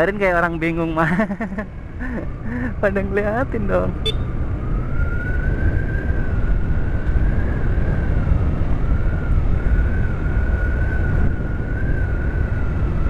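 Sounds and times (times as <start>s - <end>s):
wind rumble on microphone: 0.0s - 13.0s
motorcycle engine with high whine: 1.7s - 13.0s.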